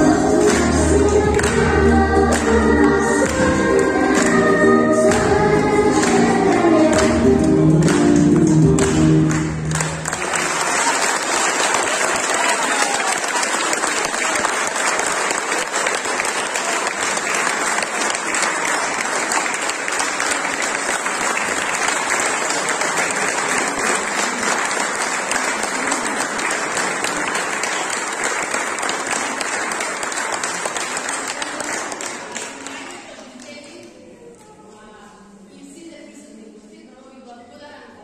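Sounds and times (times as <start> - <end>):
audience applauding: 0.0 - 33.6.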